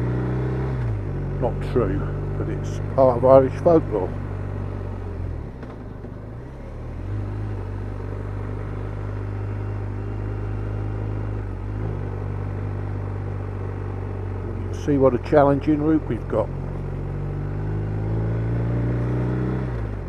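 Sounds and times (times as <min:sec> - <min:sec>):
motorcycle engine running: 0:00.0 - 0:06.7, 0:07.5 - 0:20.0.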